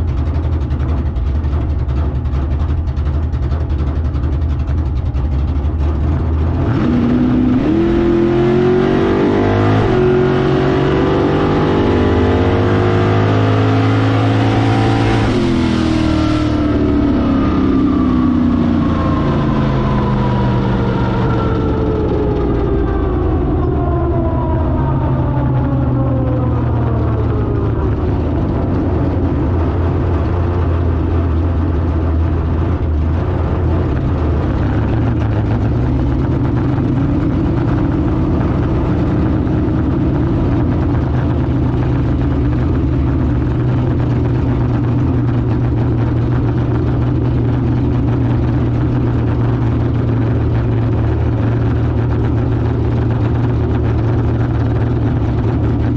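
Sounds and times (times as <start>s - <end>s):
car engine revving down: 0.0s - 55.9s.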